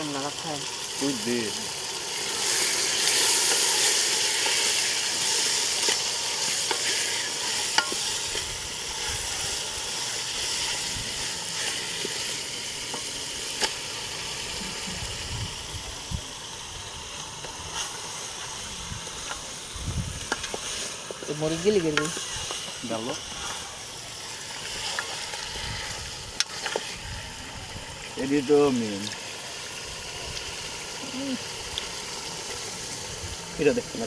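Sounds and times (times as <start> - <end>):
curry frying in hot oil: 0.0 - 34.0.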